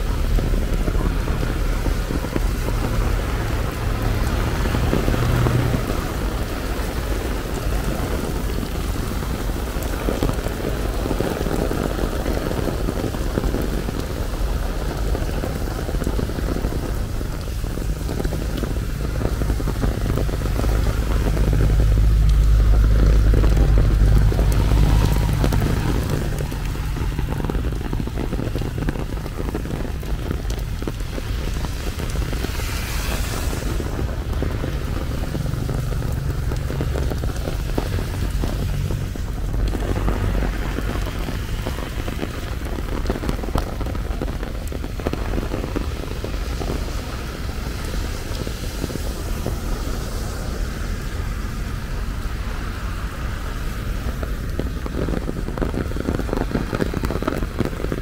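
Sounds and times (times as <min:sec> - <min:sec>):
low rumble: 0:00.0 - 0:58.0
rain falling: 0:00.0 - 0:58.0.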